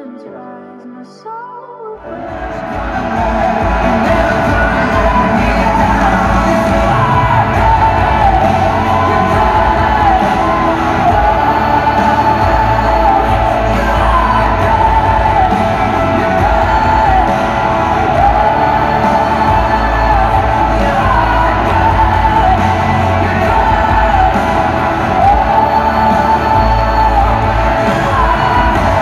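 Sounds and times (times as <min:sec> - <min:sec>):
person singing: 0:00.0 - 0:29.0
live worship band music: 0:02.0 - 0:29.0.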